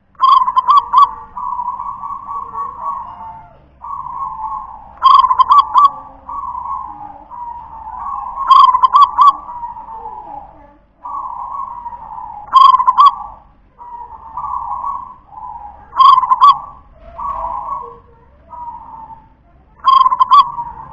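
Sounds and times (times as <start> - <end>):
dove cooing: 0.0 - 20.9.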